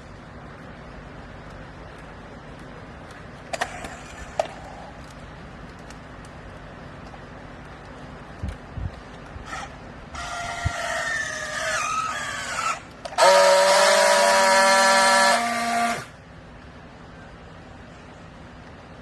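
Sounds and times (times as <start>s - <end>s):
pitched mechanical whine: 0.0s - 19.0s.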